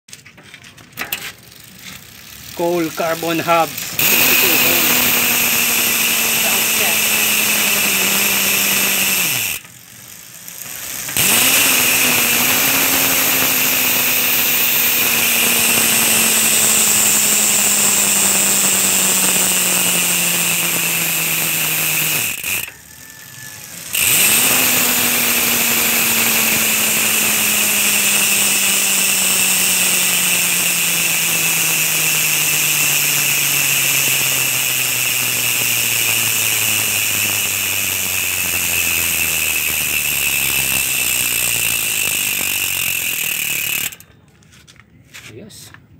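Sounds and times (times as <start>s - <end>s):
bicycle freehub ratchet buzzing: 0.3s - 44.2s.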